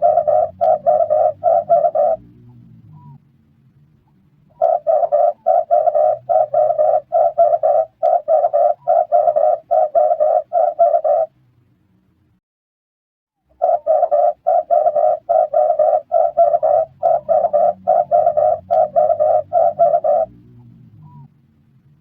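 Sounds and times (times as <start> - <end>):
dove cooing: 0.0 - 3.2, 4.5 - 11.4, 13.5 - 21.3.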